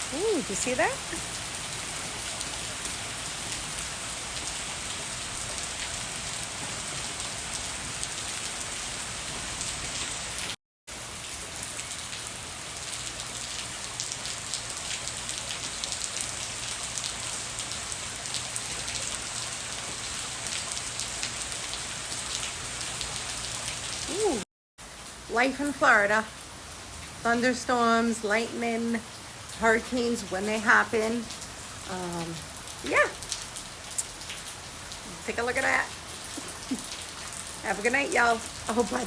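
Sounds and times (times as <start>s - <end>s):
heavy rain falling: 0.0s - 24.4s, 25.0s - 39.0s.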